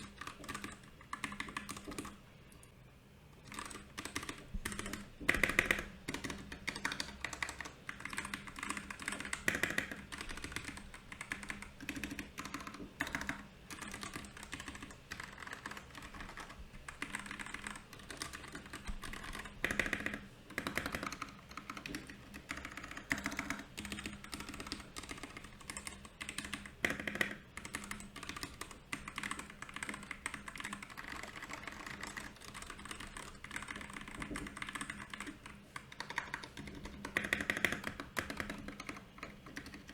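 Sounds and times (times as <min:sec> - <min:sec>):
mechanical keyboard typing: 0:00.0 - 0:02.6, 0:03.4 - 0:39.9.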